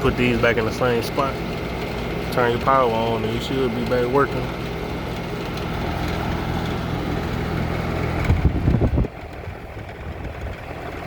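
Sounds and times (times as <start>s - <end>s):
condenser unit humming: 0.0s - 11.0s.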